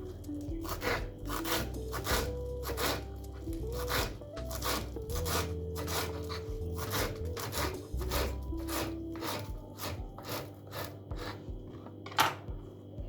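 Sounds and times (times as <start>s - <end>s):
repeated scraping strokes: 0.0s - 11.5s
soft background music: 0.0s - 13.0s.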